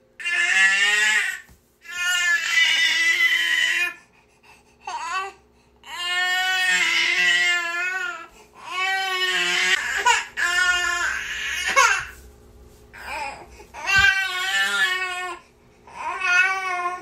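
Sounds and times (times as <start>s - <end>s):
infant crying: 0.2s - 4.0s, 4.9s - 12.2s, 13.0s - 17.0s.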